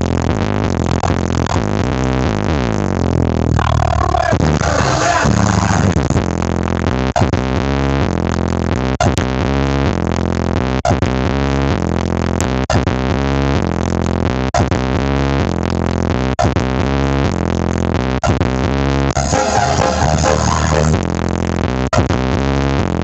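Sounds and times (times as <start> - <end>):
electronic dance music with heavy bass: 0.1 - 23.0.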